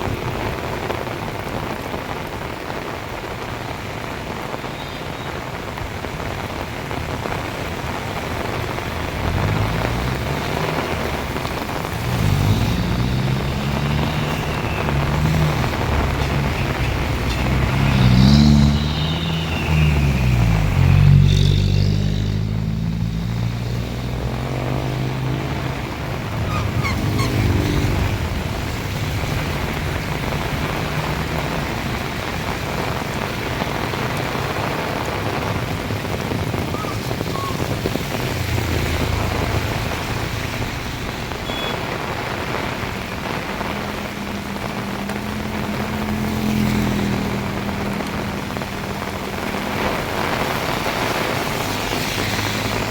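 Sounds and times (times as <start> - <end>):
heavy rain pouring: 0.0 - 52.9
vehicle passing by: 8.1 - 41.4, 42.2 - 52.9.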